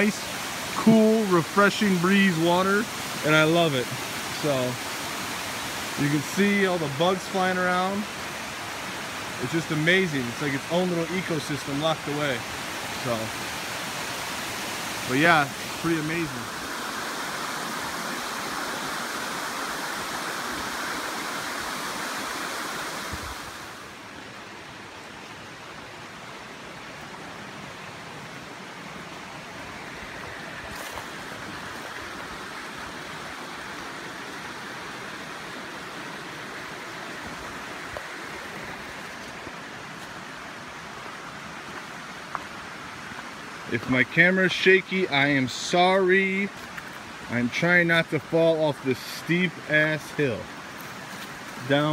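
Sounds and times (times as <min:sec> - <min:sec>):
waterfall and stream rushing: 0:00.0 - 0:51.9.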